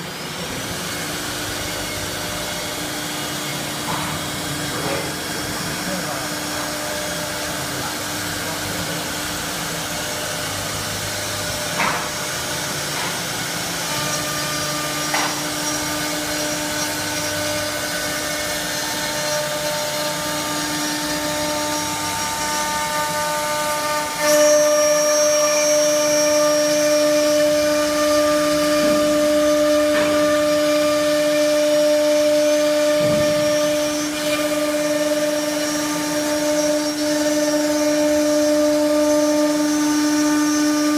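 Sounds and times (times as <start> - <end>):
router bit cutting wood: 0.0 - 40.9
router spindles whining: 0.0 - 40.9.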